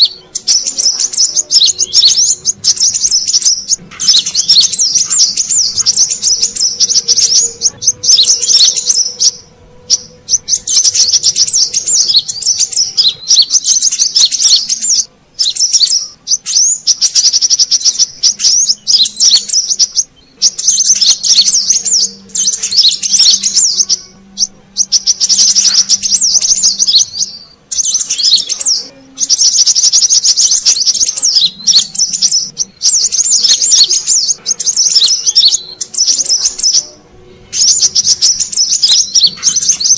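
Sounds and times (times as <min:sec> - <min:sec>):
bird chattering chirps: 0:00.0 - 0:39.9.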